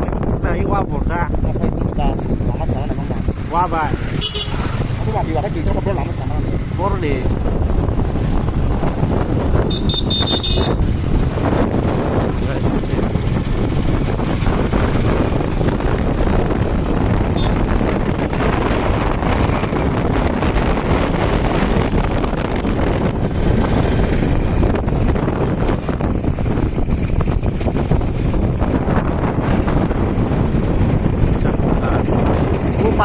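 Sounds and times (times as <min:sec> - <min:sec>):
motorcycle running noise: 0:00.0 - 0:33.0
wind rushing over microphone: 0:00.0 - 0:33.0.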